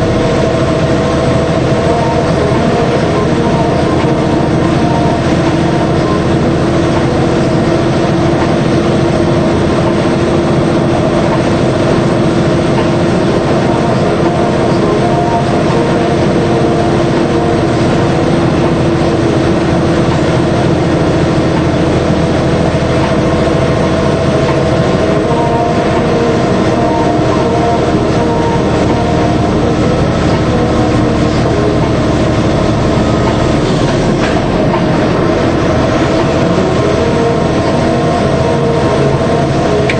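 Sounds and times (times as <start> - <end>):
lorry diesel engine drone: 0.0 - 39.9
road and wheel noise: 0.0 - 39.9.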